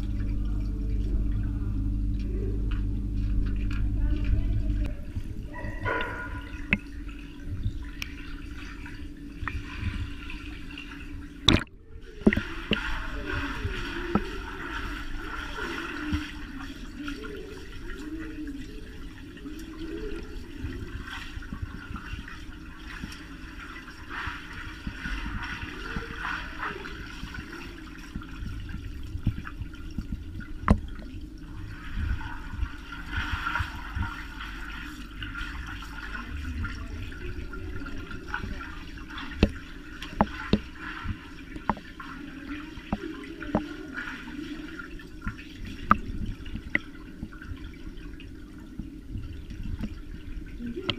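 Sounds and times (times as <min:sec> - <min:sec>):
water sloshing and bubbling underwater: 0:00.0 - 0:50.9.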